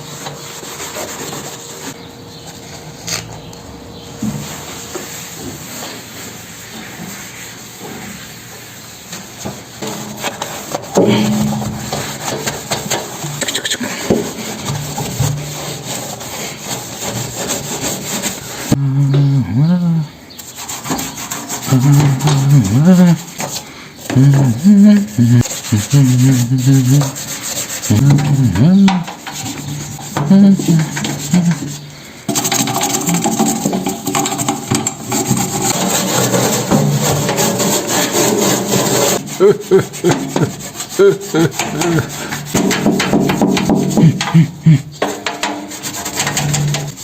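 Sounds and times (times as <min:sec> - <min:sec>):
scrubbing microwave: 0:04.2 - 0:18.8, 0:20.4 - 0:47.0.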